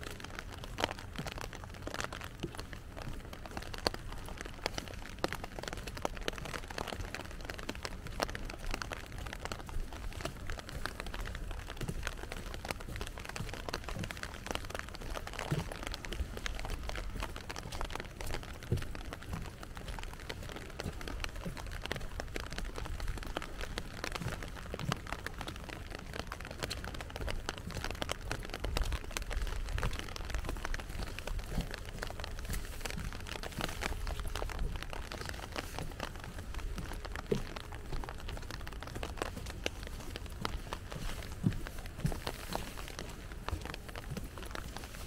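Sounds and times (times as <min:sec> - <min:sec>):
rain drops spattering: 0:00.0 - 0:45.0.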